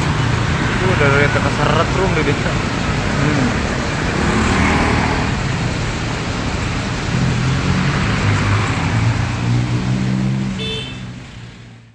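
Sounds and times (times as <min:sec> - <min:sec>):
passing traffic: 0:00.0 - 0:11.9.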